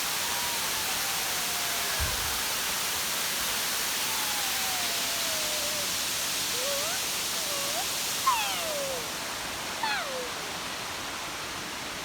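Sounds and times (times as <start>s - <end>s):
steady hissing noise: 0.0s - 10.8s.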